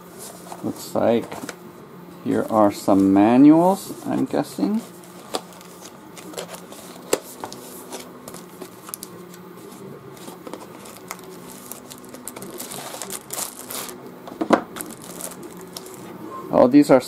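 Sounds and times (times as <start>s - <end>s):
cardboard folders being shuffled: 0.1s - 1.6s, 2.3s - 16.2s.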